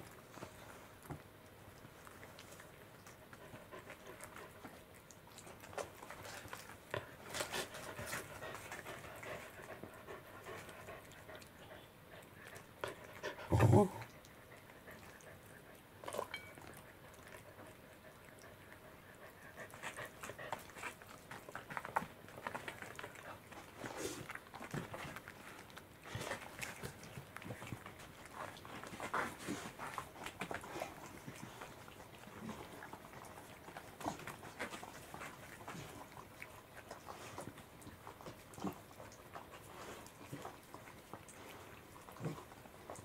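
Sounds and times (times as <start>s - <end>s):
cat chewing and licking: 0.0s - 43.0s.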